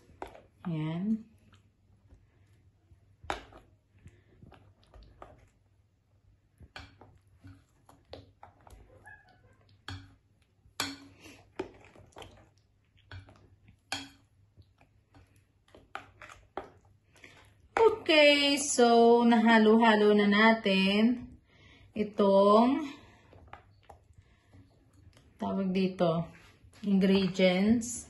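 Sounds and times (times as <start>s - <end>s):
spoon stirring batter: 0.0s - 28.0s.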